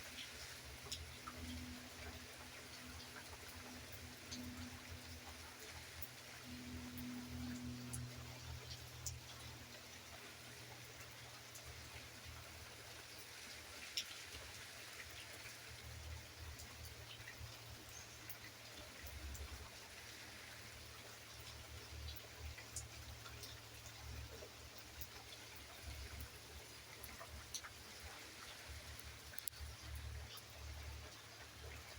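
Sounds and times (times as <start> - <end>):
light rain falling: 0.0 - 31.9
raindrops ticking on surfaces: 0.0 - 31.9.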